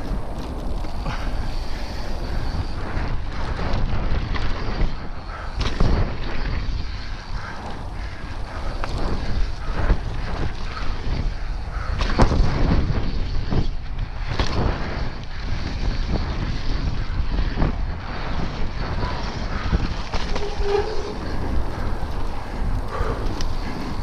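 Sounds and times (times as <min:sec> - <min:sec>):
bike rattling clicks and knocks: 0:00.0 - 0:24.0
bike tyres rolling on dirt: 0:00.0 - 0:24.0
wind buffeting microphone: 0:00.0 - 0:24.0.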